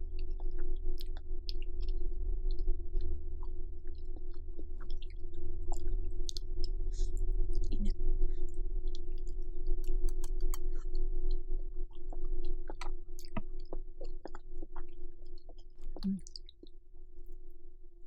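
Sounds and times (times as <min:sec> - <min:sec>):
steady low hum: 0:00.0 - 0:18.0
wet mouth clicks and smacks chewing: 0:00.2 - 0:16.8.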